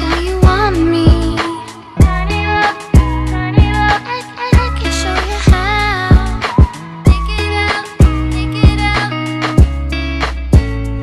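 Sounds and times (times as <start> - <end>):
steady drum beat: 0.0 - 4.0, 4.6 - 10.9
bass line: 0.0 - 11.0.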